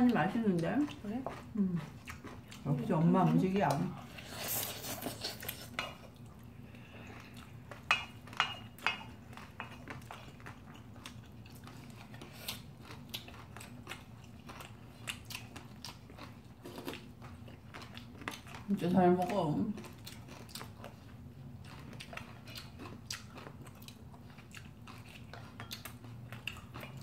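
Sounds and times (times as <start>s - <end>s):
low steady hum: 0.0s - 27.0s
people chewing food: 0.0s - 27.0s.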